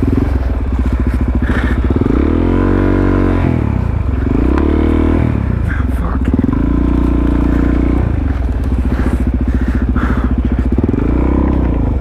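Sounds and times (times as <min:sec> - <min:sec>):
motorcycle engine chugging and revving: 0:00.0 - 0:12.0.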